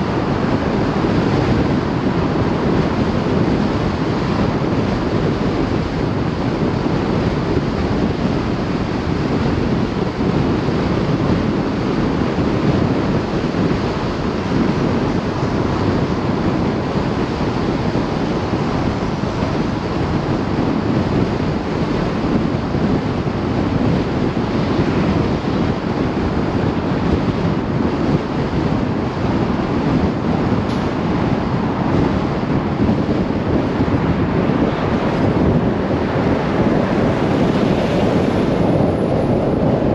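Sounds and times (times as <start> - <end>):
tyre and road noise: 0.0 - 39.9
wind buffeting microphone: 0.0 - 39.9.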